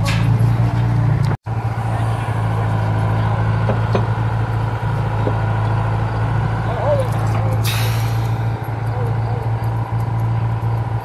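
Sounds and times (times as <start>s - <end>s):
heavy equipment engine humming: 0.0s - 11.0s.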